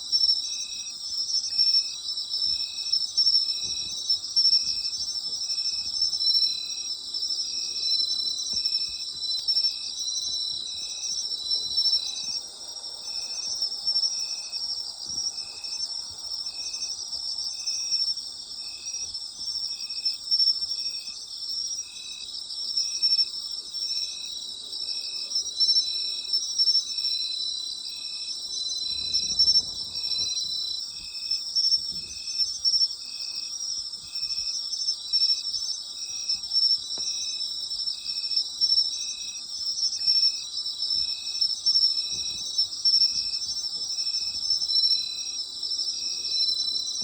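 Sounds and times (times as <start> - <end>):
insect chirping: 0.0 - 47.0
insects trilling: 0.1 - 47.0.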